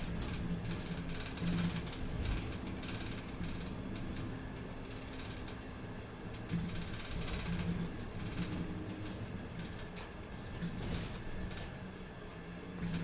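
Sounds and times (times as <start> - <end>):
bus engine hum: 0.0 - 13.0
bus interior rattles: 0.0 - 13.0
road noise: 0.0 - 13.0.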